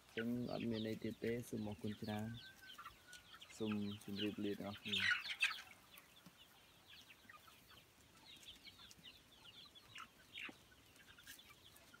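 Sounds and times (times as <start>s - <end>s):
young chickens peeping: 0.0s - 12.0s.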